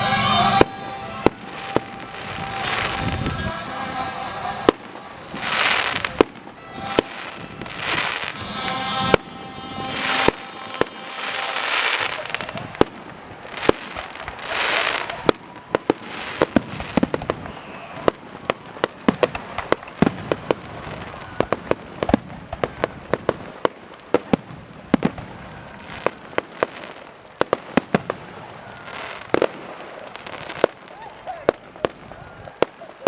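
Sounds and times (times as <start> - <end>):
fireworks bangs: 0.0 - 33.0
fireworks hissing: 0.0 - 33.0.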